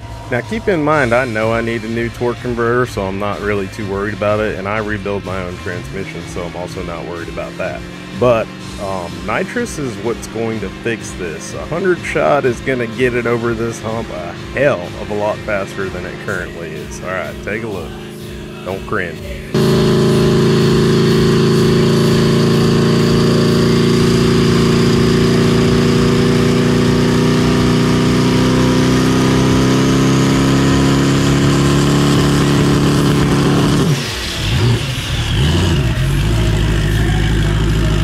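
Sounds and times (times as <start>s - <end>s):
drag car engine on rev limiter: 0.0s - 38.0s
high whine: 0.0s - 38.0s.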